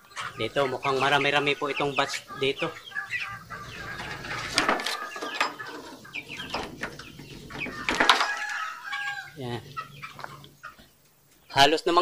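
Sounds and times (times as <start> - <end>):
chickens clucking and cheeping: 0.0 - 12.0.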